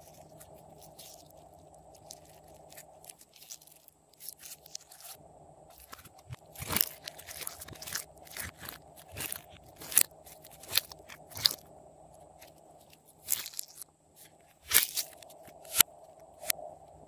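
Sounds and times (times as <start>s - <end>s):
slime crackling and popping: 0.0s - 11.6s, 12.4s - 13.8s, 14.6s - 16.5s.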